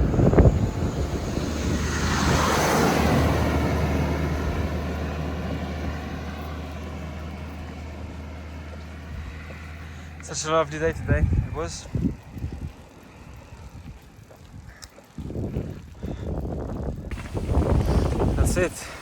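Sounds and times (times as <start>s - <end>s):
vehicle passing by whoosh: 0.0s - 13.4s, 17.1s - 19.0s.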